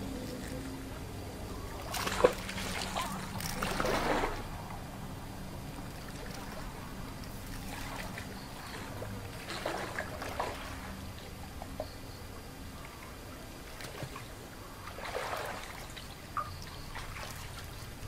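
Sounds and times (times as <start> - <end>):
water splashing from wading: 0.0 - 18.0.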